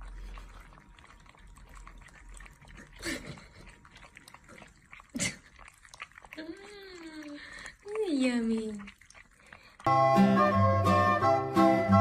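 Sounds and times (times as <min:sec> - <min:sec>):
puppy vocalisations: 0:00.0 - 0:09.9.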